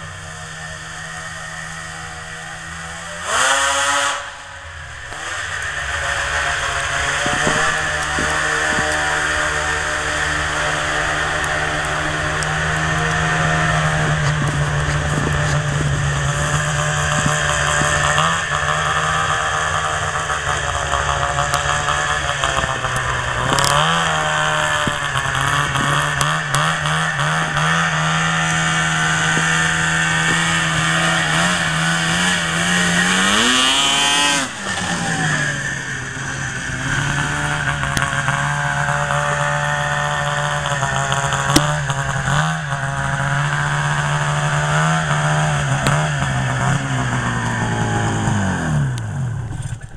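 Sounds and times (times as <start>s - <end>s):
snowmobile engine revving: 0.0s - 49.9s.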